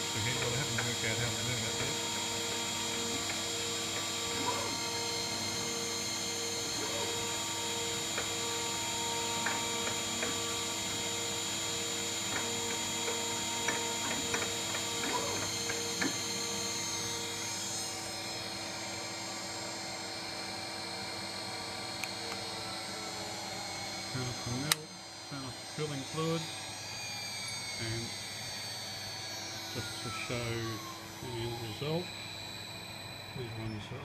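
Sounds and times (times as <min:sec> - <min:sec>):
milling spindle whine: 0:00.0 - 0:34.0.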